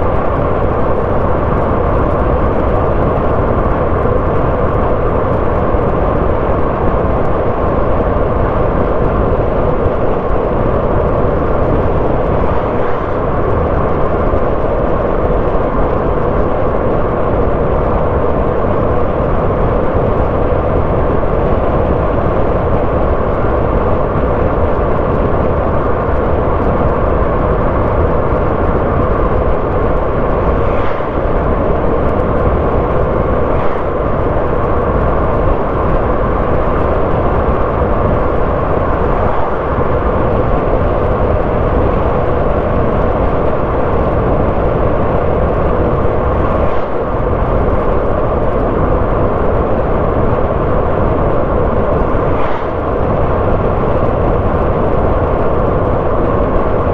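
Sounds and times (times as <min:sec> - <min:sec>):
car driving road noise: 0:00.0 - 0:56.9.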